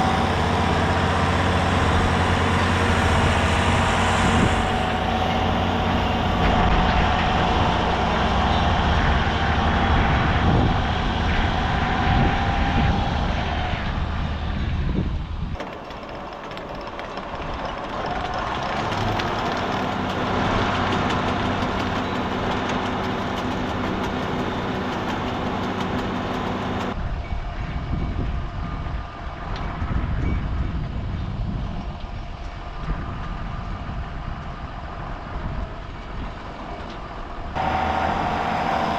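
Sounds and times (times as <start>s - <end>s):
diesel farm machinery running: 0.0s - 38.9s.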